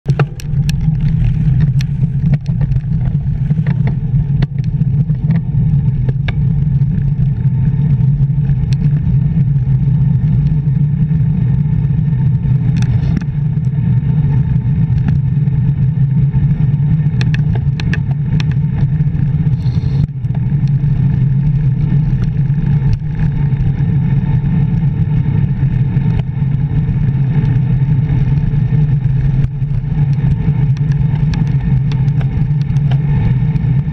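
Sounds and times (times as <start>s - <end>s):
wind rushing over microphone: 0.0s - 33.9s
bike clicks and knocks over bumps: 0.1s - 33.9s.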